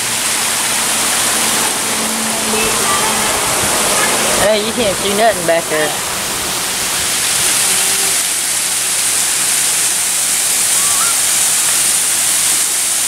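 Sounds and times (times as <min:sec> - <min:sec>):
waterfall onto stone: 0:00.0 - 0:13.0.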